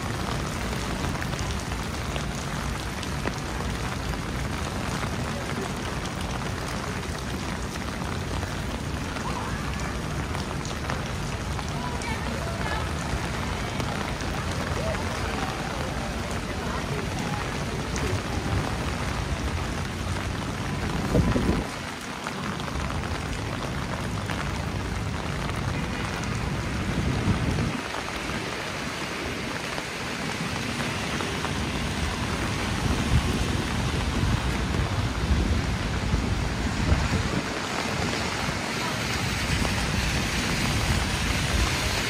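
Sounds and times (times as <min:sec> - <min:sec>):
rain pattering on umbrella: 0:00.0 - 0:42.0.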